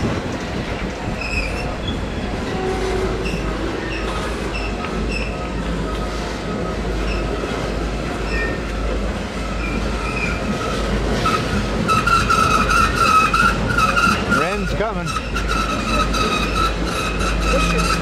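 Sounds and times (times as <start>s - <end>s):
freight train rumbling by: 0.0s - 18.0s
wheels squealing: 0.7s - 18.0s.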